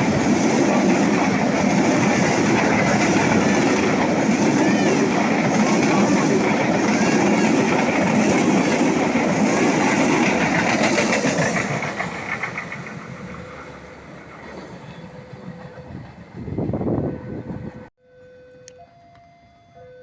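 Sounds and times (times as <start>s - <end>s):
train wheels clattering over rails: 0.0s - 16.5s.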